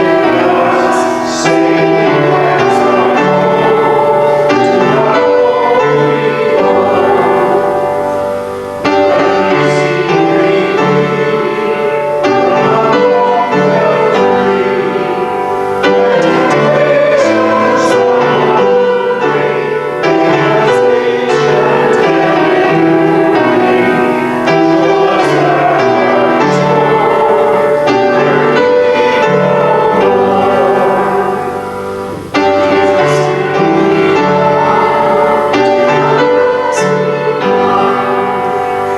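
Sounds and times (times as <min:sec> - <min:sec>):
piano playing hymn chords: 0:00.0 - 0:38.9.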